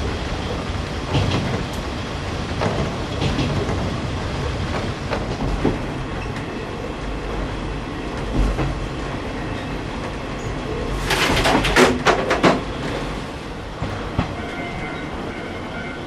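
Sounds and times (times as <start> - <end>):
wheels clacking over rail joints: 0.0 - 15.2
railcar engine and wheels rumbling: 0.0 - 16.0.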